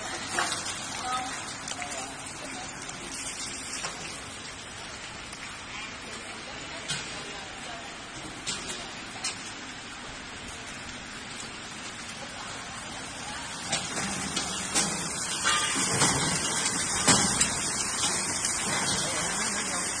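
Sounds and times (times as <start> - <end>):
hot oil sizzling in a fryer: 0.0 - 20.0.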